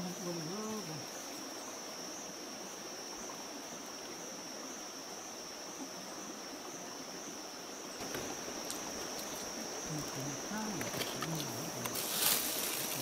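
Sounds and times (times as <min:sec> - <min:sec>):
insects buzzing: 0:00.0 - 0:13.0
stream flowing over rocks: 0:00.0 - 0:13.0.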